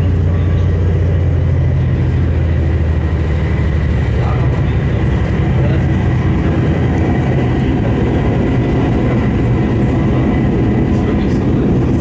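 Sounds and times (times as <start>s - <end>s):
diesel engine rumble: 0.0s - 12.0s
high whine: 0.0s - 12.0s
train wheels on track: 0.0s - 12.0s.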